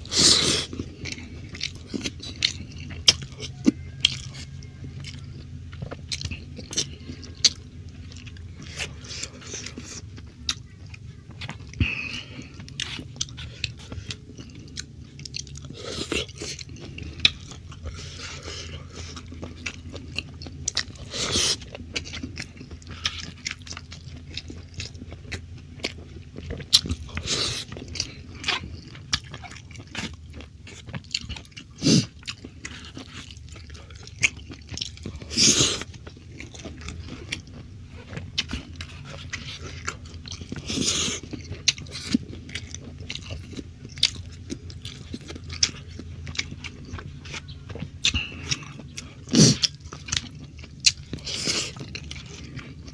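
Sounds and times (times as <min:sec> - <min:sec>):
close chewing and biting: 0:00.0 - 0:52.9.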